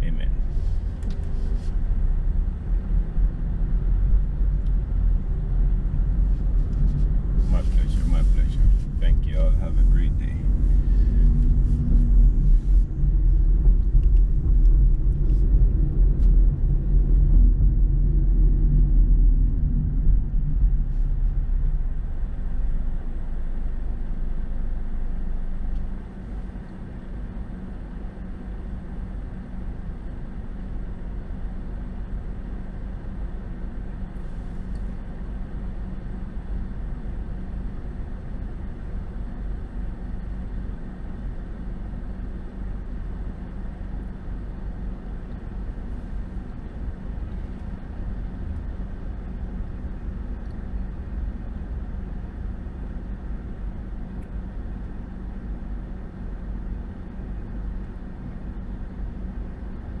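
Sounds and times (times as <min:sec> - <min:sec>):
car driving on highway: 0:00.0 - 1:00.0
low hum: 0:00.0 - 1:00.0.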